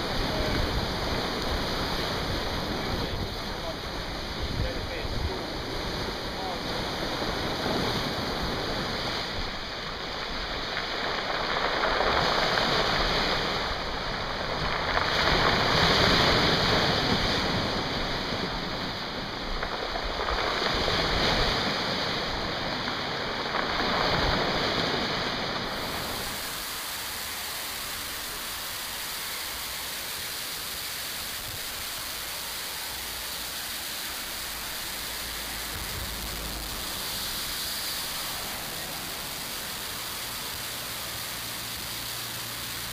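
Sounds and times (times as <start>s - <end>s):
river pouring over a weir: 0.0s - 42.9s
sea waves on rocks: 0.0s - 42.9s.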